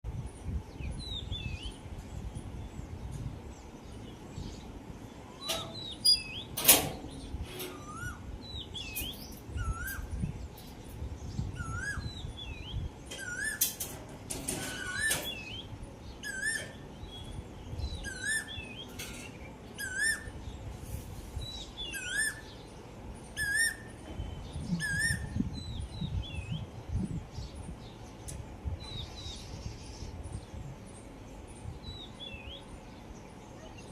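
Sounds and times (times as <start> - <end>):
small birds chirping and trilling: 0.1 - 33.9.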